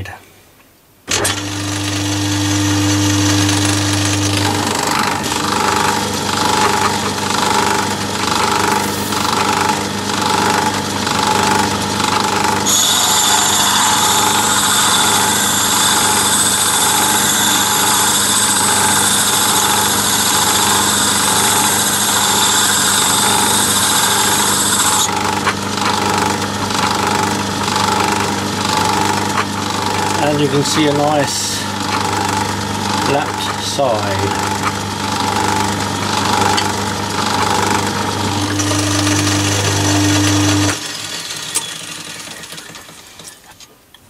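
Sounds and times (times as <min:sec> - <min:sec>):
lathe motor humming: 0:01.1 - 0:43.2.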